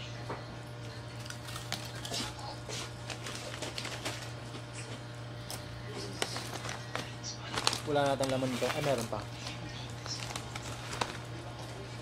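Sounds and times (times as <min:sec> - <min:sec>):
steady low hum: 0:00.0 - 0:12.0
chips crunching: 0:00.8 - 0:04.8, 0:05.5 - 0:12.0
chip bag crinkling: 0:01.0 - 0:04.6, 0:05.5 - 0:12.0.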